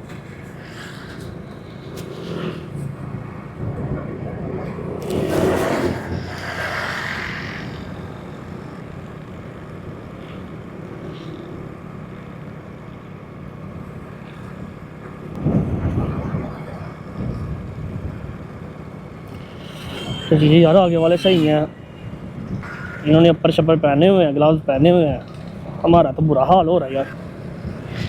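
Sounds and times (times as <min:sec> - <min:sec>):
wind noise on microphone: 0:00.0 - 0:10.7, 0:14.6 - 0:28.0
motorcycle engine running: 0:00.0 - 0:28.0.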